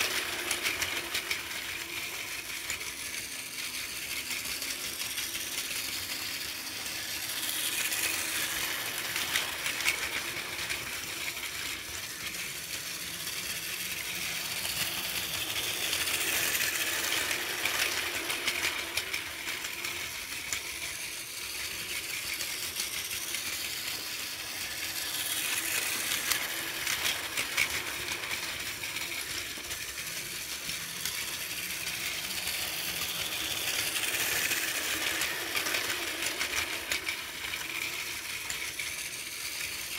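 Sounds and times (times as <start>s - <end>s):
toy train motor whirring: 0.0s - 39.9s
toy wheels rattling on plastic rails: 0.0s - 39.9s.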